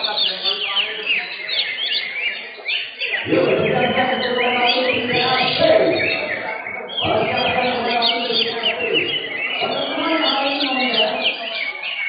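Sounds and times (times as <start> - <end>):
birds chirping and trilling: 0.0 - 12.0
crowd of voices: 0.0 - 12.0.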